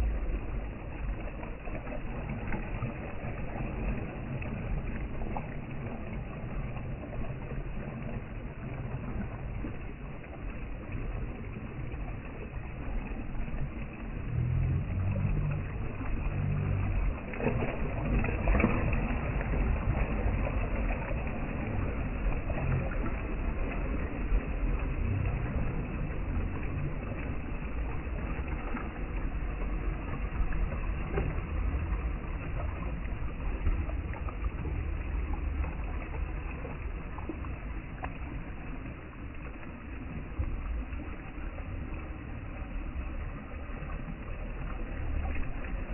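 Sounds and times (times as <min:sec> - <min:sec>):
ocean waves washing in: 0:00.0 - 0:45.9.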